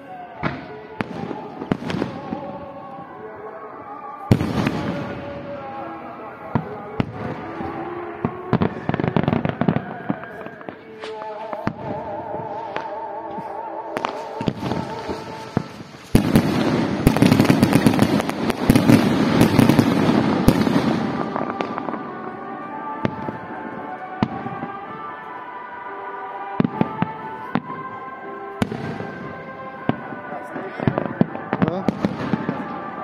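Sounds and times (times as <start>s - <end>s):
background music: 0.0s - 33.0s
fireworks bangs and crackling: 0.0s - 33.0s.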